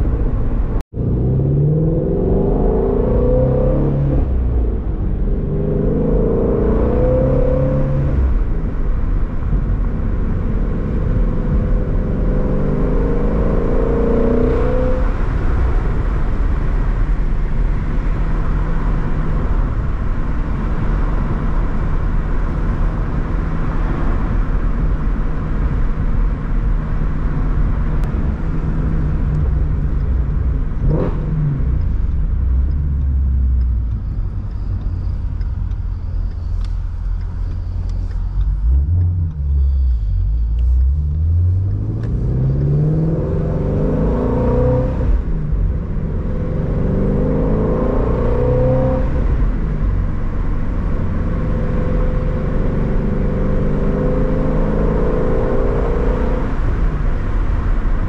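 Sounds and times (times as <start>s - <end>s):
car engine rumbling and accelerating: 0.0s - 58.0s.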